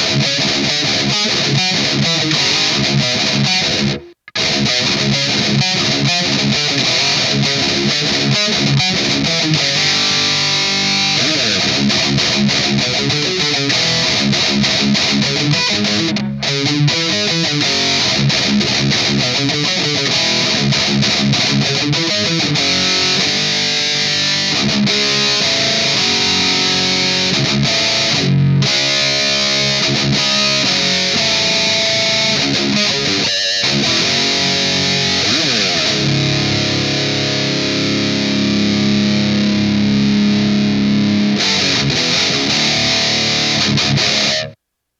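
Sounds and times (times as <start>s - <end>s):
distorted electric guitar riff: 0.0s - 44.6s.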